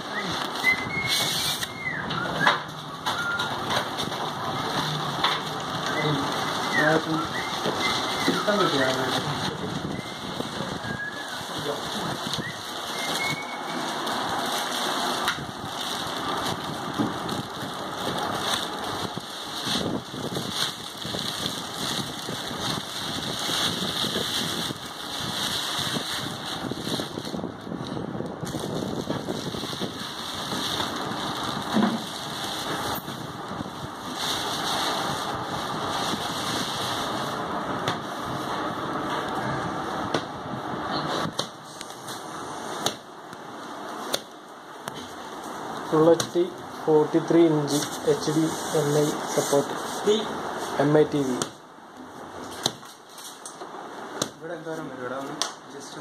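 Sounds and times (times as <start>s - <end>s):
plastic and cardboard rustling: 0.0s - 55.4s
steady rushing noise: 2.7s - 53.1s.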